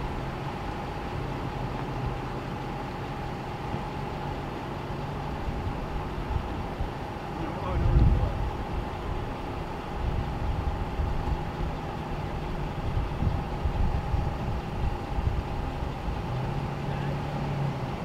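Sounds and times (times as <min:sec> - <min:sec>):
faint constant hum: 0:00.0 - 0:18.0
low engine drone: 0:00.0 - 0:18.0
vehicle engines idling: 0:00.0 - 0:18.0.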